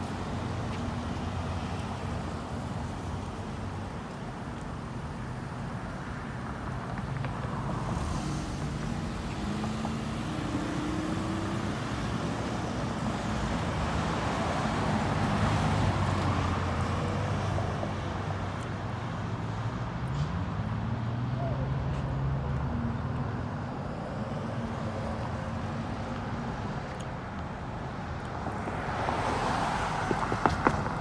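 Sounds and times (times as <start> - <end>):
cars driving past: 5.6 - 31.0.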